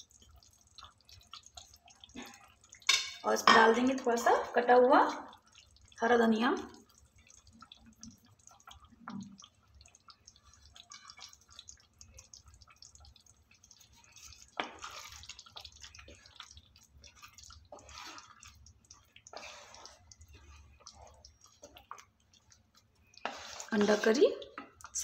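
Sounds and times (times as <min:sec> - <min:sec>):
gravy simmering and popping: 0:00.0 - 0:25.0
wooden spatula stirring gravy: 0:00.0 - 0:25.0.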